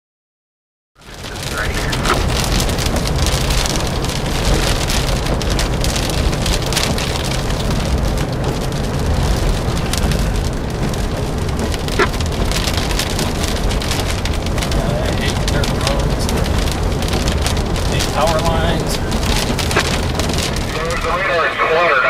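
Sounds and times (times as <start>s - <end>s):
heavy rain on a vehicle: 1.0s - 22.0s
low steady rumble: 1.0s - 22.0s.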